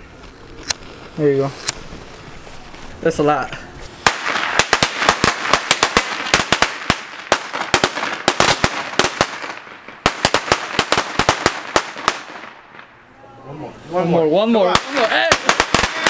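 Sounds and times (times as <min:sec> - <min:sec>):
firecrackers banging: 0:00.0 - 0:13.2, 0:13.8 - 0:16.0.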